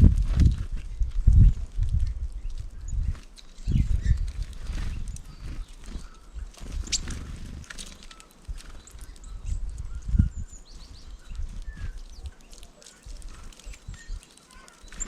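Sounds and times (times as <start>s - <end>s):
small birds chirping: 0.5s - 15.0s.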